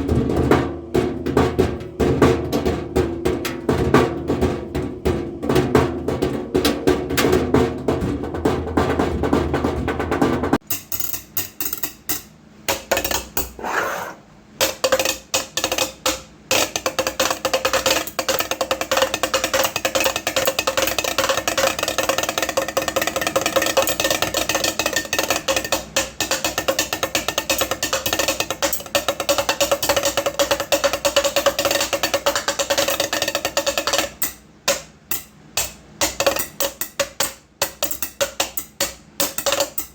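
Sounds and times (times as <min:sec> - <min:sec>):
drumming on hard object: 0:00.0 - 0:10.7, 0:14.6 - 0:39.9.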